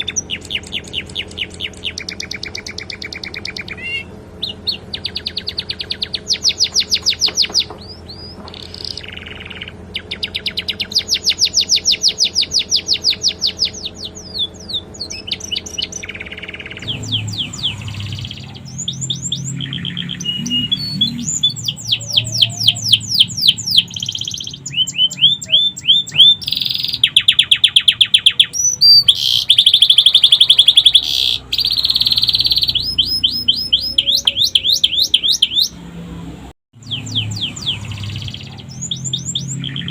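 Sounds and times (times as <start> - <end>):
canary singing rapid trills: 0.0 - 35.8, 36.8 - 39.9.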